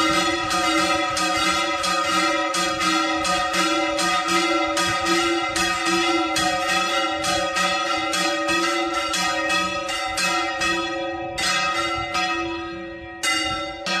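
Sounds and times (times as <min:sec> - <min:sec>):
swinging church bell ringing: 0:00.0 - 0:14.0.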